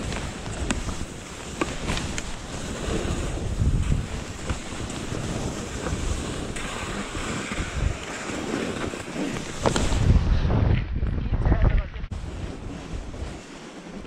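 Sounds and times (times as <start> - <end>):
ski poles crunching in snow: 0.0 - 10.1, 12.2 - 14.0
skis sliding over snow: 0.0 - 10.2, 12.1 - 14.0
wind buffeting microphone: 0.0 - 13.4.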